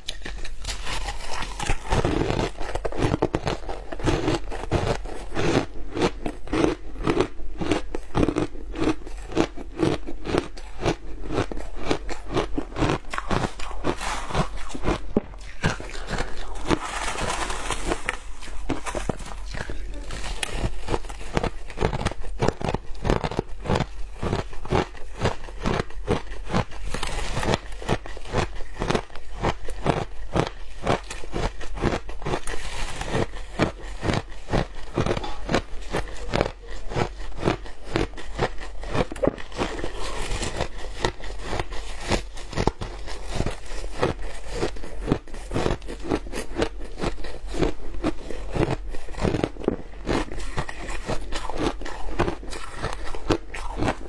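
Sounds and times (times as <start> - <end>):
crunching shaved ice: 0.0 - 54.0.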